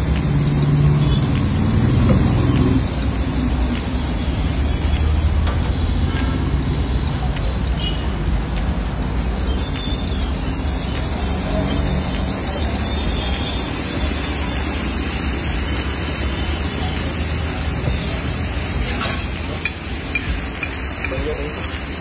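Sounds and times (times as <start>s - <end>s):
egg sizzling on a griddle: 0.0s - 22.0s.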